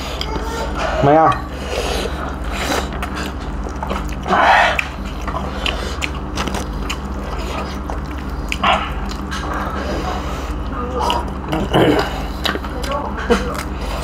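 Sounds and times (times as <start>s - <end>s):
biting and chewing: 0.0s - 14.0s
steady low hum: 0.0s - 14.0s.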